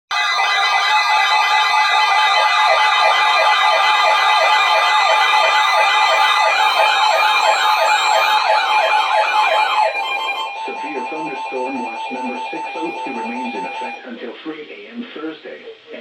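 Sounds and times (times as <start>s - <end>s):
electronic alert siren warbling: 0.1s - 14.2s.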